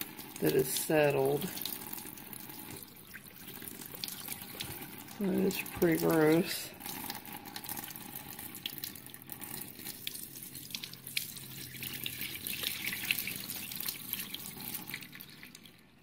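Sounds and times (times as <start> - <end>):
dirty water pouring into a sink: 0.0 - 16.0
water drips and spatters: 0.0 - 16.0.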